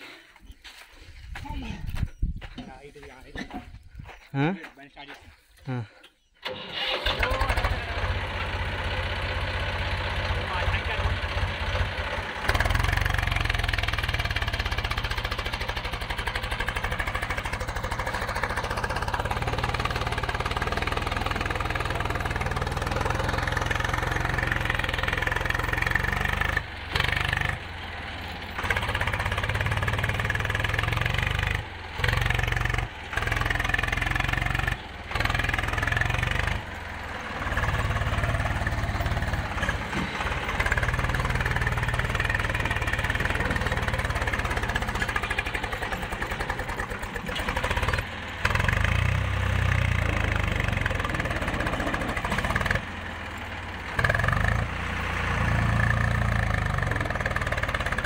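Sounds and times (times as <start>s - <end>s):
tractor diesel engine running: 6.4s - 58.0s.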